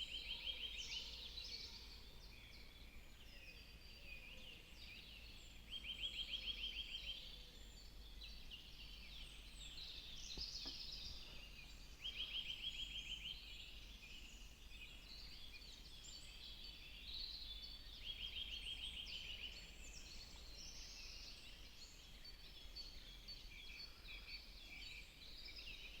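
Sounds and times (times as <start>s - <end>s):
songbirds chirping and singing: 0.0s - 26.0s.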